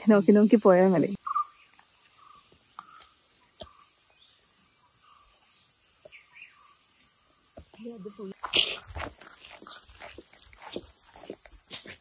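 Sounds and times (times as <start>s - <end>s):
insects droning: 0.0s - 12.0s
bird calls: 1.2s - 7.0s, 7.6s - 12.0s.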